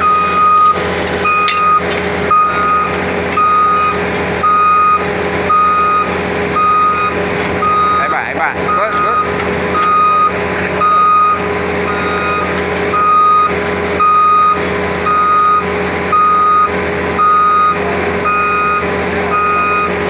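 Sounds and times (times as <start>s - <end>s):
bulldozer engine running: 0.0s - 20.0s
reverse alarm beeping: 0.0s - 20.0s.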